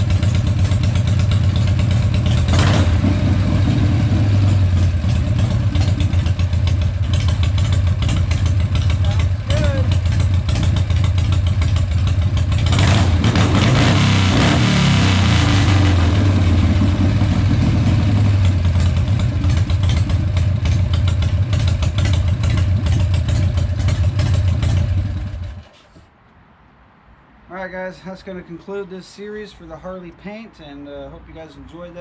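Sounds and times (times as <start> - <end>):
motorcycle engine revving and idling: 0.0 - 25.8.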